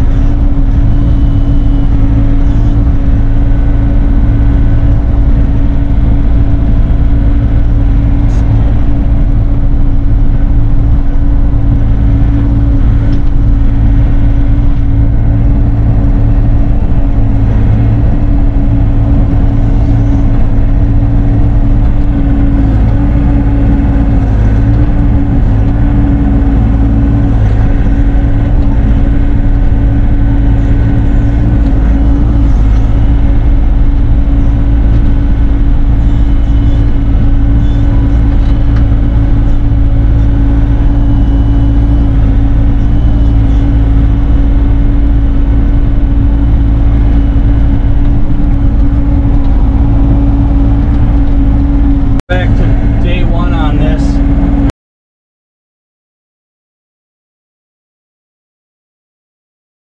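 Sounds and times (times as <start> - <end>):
diesel engine running steadily: 0.0 - 54.7.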